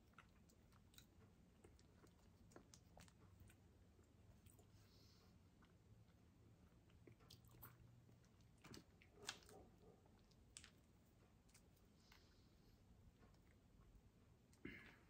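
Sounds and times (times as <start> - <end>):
faint chewing and mouth clicks: 0.0 - 15.0.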